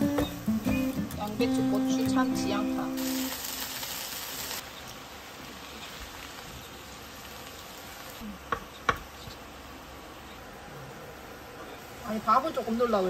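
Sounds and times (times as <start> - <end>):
vegetables sizzling in a frying pan: 0.0 - 10.4, 11.0 - 13.0.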